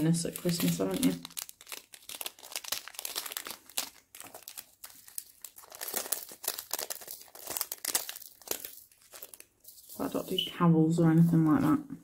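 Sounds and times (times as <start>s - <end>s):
plastic bags crinkling: 0.0s - 10.5s.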